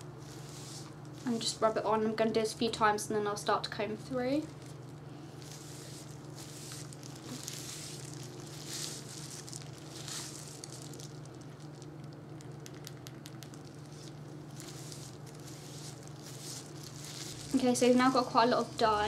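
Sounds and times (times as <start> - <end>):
hair dye squishing and rustling: 0.0 - 2.2, 4.3 - 19.0
steady low hum: 0.0 - 19.0.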